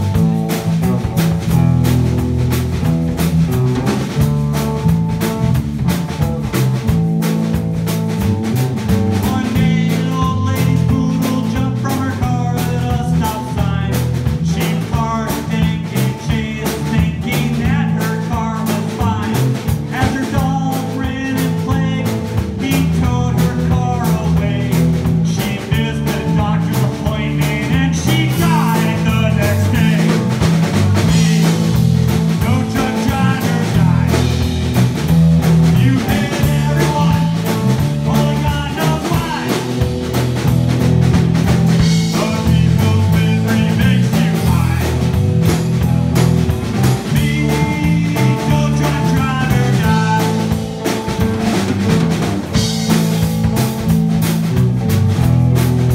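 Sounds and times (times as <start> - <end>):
rock band playing live: 0.0 - 55.9.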